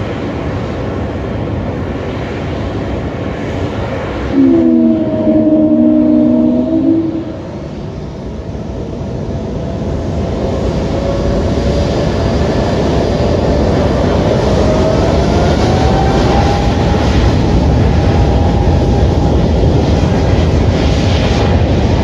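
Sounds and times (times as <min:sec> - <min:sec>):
jet engines deep rumble: 0:00.0 - 0:22.0
jet engine whine rising: 0:02.0 - 0:22.0.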